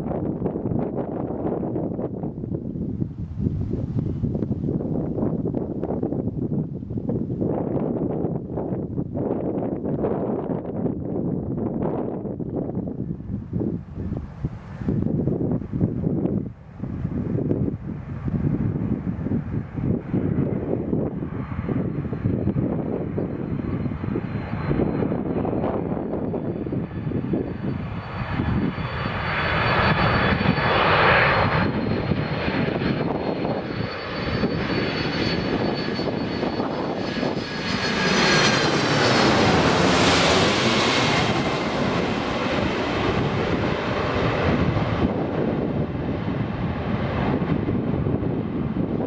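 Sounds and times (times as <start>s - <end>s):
jet engine roar with whine: 0.0s - 49.0s.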